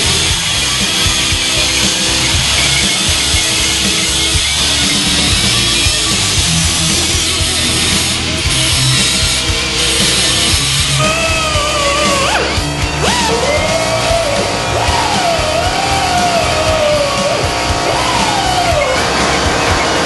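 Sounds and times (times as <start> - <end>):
distorted electric guitar: 0.0 - 20.0
driving drum beat: 0.0 - 20.0.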